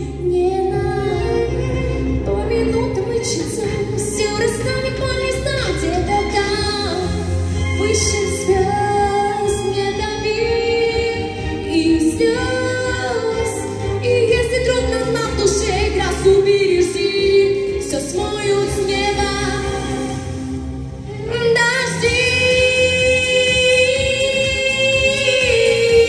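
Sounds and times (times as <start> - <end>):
girl singing pop song: 0.0 - 26.0
music accompaniment: 0.0 - 26.0.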